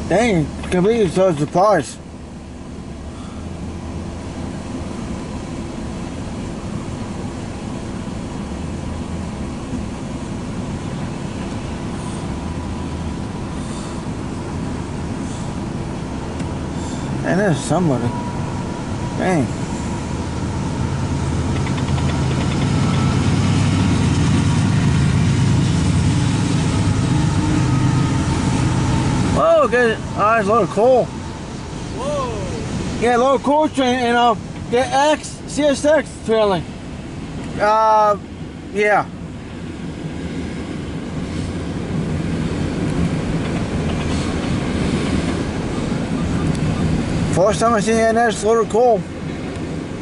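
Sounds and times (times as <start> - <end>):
steel train wheels rumbling on rails: 0.0 - 37.6, 38.2 - 50.0
diesel locomotive engines droning: 0.0 - 50.0.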